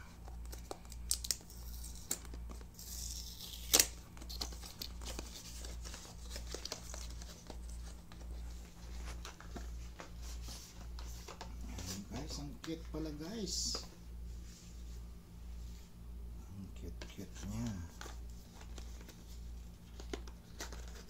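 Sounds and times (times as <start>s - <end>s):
steady low hum: 0.0s - 21.0s
paper and packaging crinkling: 0.3s - 13.6s, 17.4s - 21.0s.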